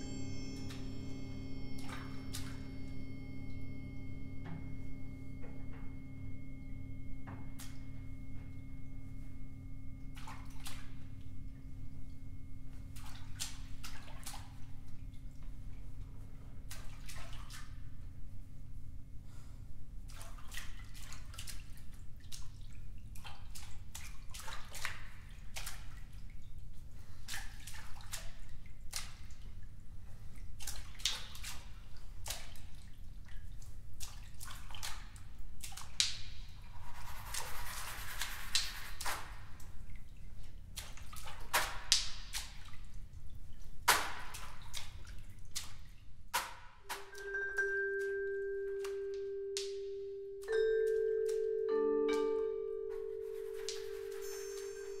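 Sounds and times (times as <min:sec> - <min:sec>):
water drips and splashes: 0:00.0 - 0:03.5, 0:07.2 - 0:08.5, 0:10.0 - 0:18.1, 0:20.0 - 0:51.6.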